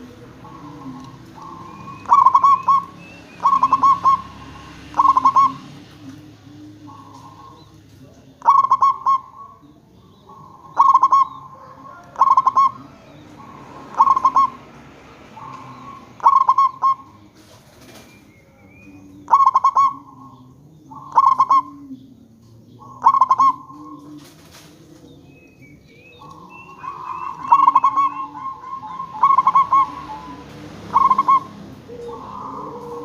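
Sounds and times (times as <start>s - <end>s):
dove cooing: 0.0s - 33.0s.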